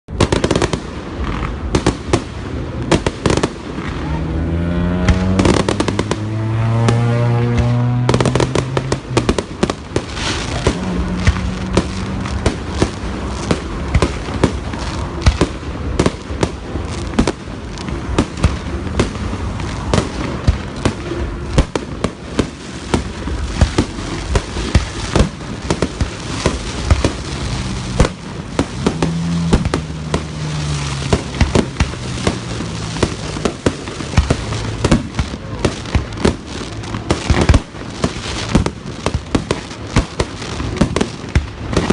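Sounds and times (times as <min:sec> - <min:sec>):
constant rushing noise: 0:00.1 - 0:41.9
fireworks bangs: 0:00.1 - 0:41.9.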